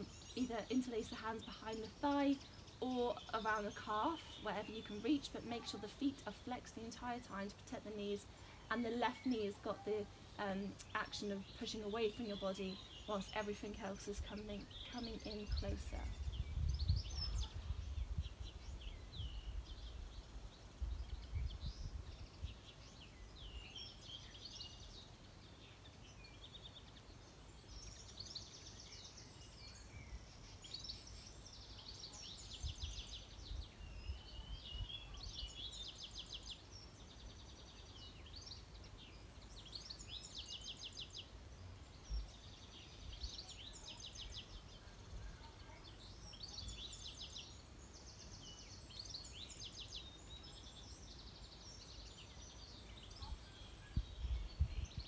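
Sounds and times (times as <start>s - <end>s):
songbirds singing with trills: 0.0s - 55.0s.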